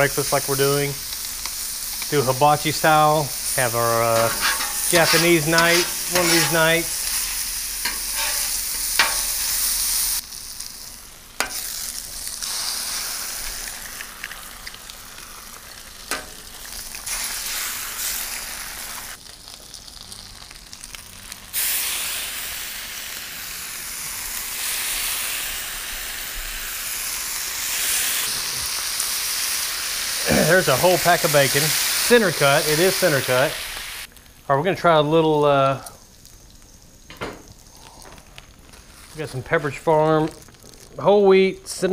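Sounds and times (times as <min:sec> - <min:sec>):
food sizzling on griddle: 0:00.0 - 0:41.9.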